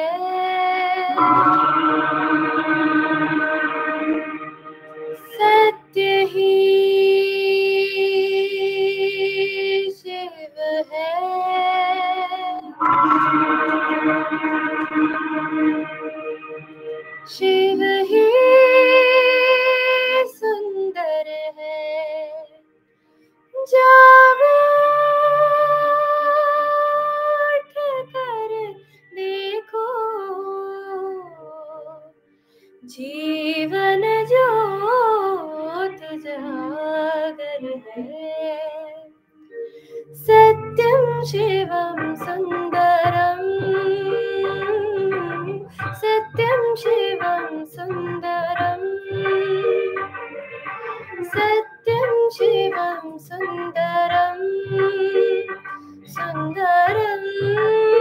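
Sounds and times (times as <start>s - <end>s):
woman singing: 0.0s - 4.4s, 5.2s - 14.8s, 17.3s - 22.6s, 23.6s - 32.1s, 32.8s - 39.1s, 40.0s - 50.1s, 51.1s - 58.0s.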